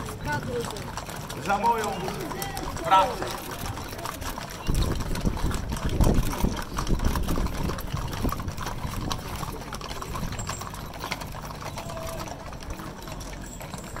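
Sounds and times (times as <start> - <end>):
horse hooves clip-clopping on pavement: 0.0 - 14.0.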